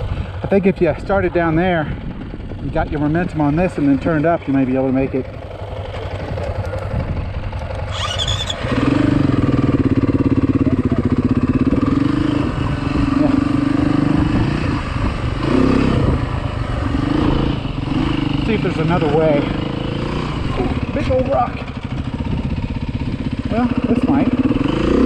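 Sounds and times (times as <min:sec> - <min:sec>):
dirt bike engine revving: 0:01.5 - 0:25.0.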